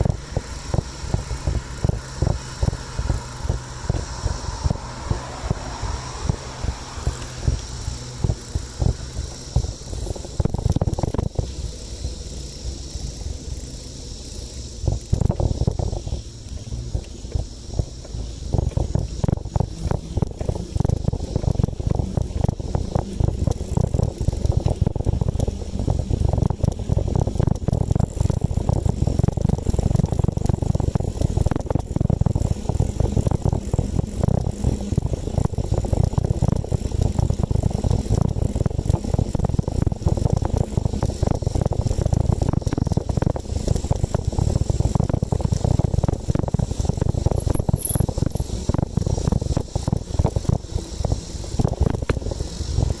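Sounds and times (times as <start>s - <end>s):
wind buffeting microphone: 0.0s - 13.4s, 14.5s - 53.0s.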